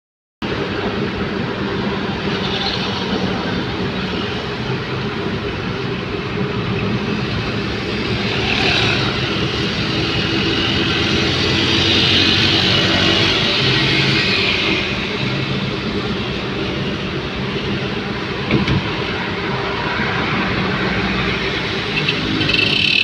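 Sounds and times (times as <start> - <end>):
road and air noise: 0.4 - 23.0
low engine drone: 3.3 - 23.0.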